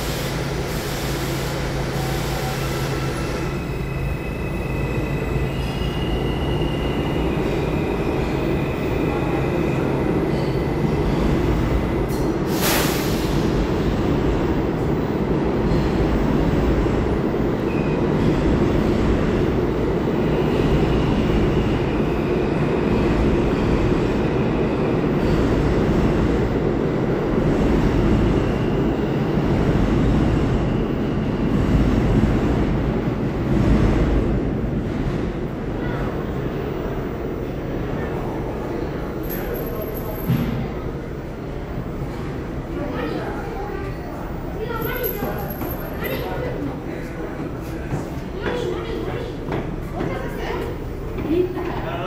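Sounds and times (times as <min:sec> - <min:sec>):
subway station rumble: 0:00.0 - 0:52.0.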